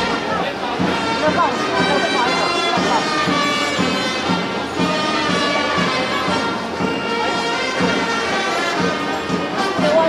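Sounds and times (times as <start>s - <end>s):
festive reed wind music: 0.0s - 10.0s
steady drum beat: 0.0s - 10.0s.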